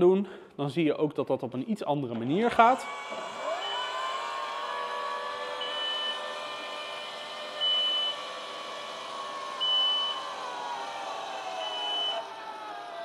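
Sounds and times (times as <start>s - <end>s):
motors whining: 2.5s - 13.0s.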